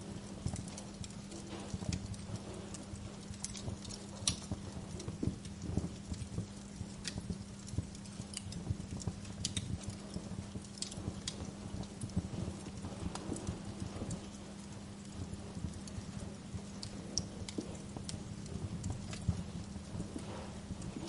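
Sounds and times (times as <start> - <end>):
steady low hum: 0.0 - 21.0
wood fire crackling: 0.0 - 21.0.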